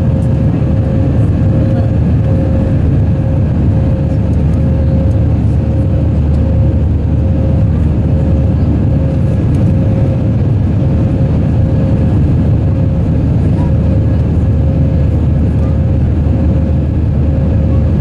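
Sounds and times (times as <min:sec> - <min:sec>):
jet engine roar and rushing air: 0:00.0 - 0:18.0
steady hum tone: 0:00.0 - 0:18.0.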